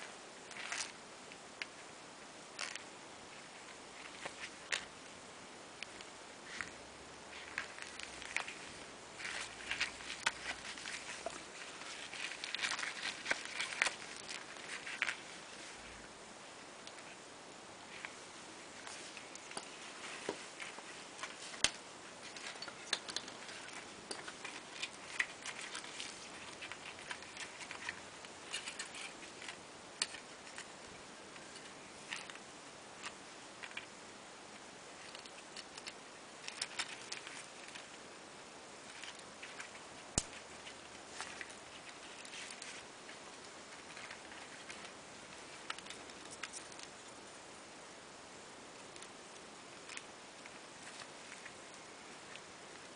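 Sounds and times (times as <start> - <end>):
faint steady hiss: 0.0 - 52.9.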